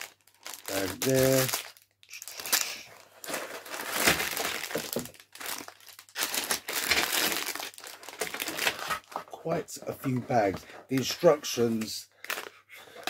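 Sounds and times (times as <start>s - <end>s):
plastic bags crinkling: 0.0s - 9.2s, 10.9s - 12.6s.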